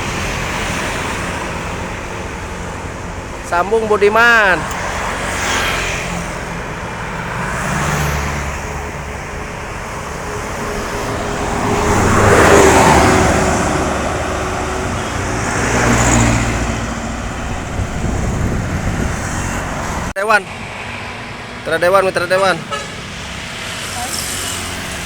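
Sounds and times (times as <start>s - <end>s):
vehicle engines droning: 0.0s - 25.0s.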